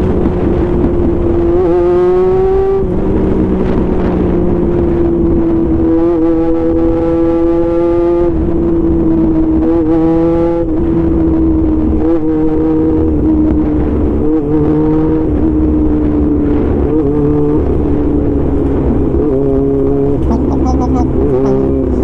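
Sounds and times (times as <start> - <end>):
motorcycle engine cruising: 0.0 - 22.0
wind rumble: 0.0 - 22.0.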